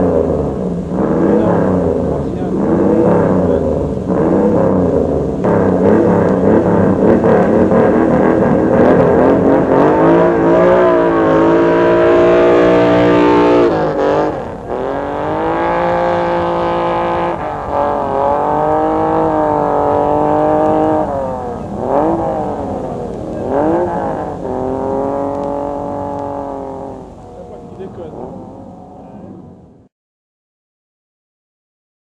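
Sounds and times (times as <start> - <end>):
racing engine at high revs: 0.0 - 29.5.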